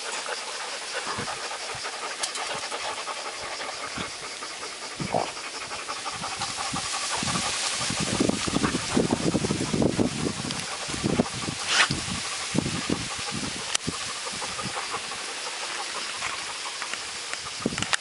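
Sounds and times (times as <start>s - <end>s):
dog panting rapidly: 0.0s - 18.0s.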